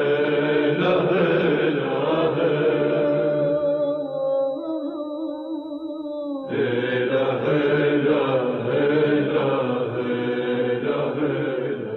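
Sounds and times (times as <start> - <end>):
wordless group vocals humming: 0.0 - 5.0, 6.4 - 11.9.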